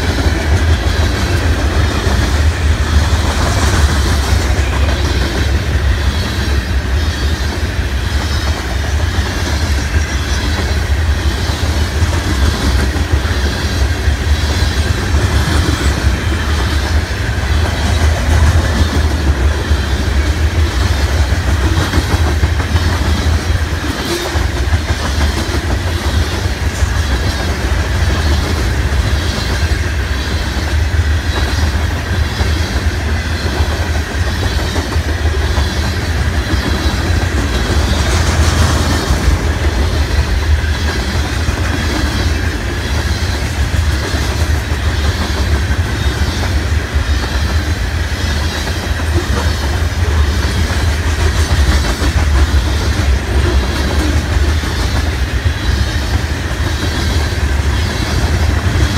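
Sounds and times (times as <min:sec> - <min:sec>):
freight train rumble: 0:00.0 - 0:58.9
wheels clickety-clack on rails: 0:00.0 - 0:58.9.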